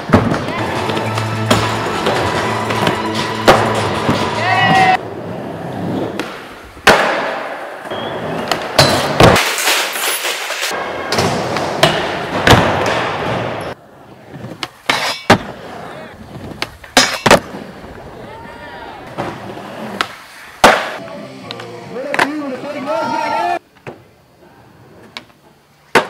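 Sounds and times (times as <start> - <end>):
skateboard wheels rolling: 0.0 - 26.0.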